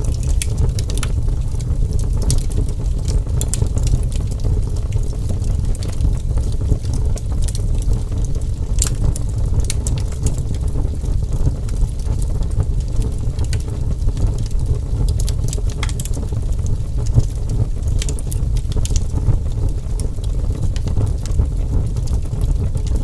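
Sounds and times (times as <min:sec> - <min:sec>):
fire crackles and pops: 0:00.0 - 0:23.0
fire rumbling: 0:00.0 - 0:23.0.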